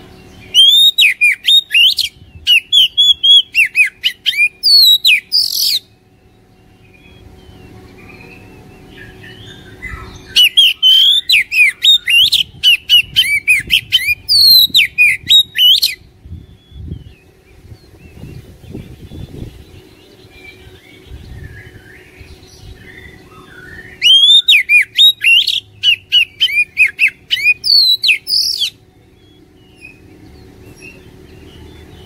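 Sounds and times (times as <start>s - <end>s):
bird singing whistled trills: 0.0s - 32.0s.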